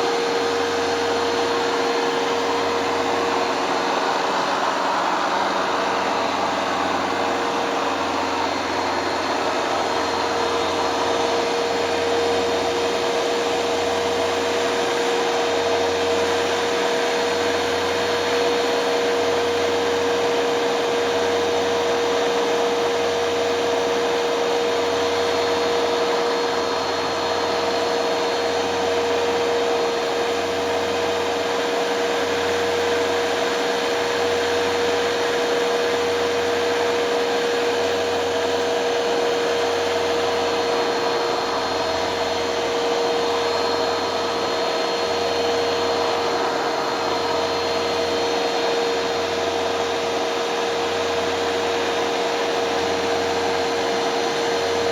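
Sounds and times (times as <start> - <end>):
carpet cleaner motor whine: 0.0 - 54.9.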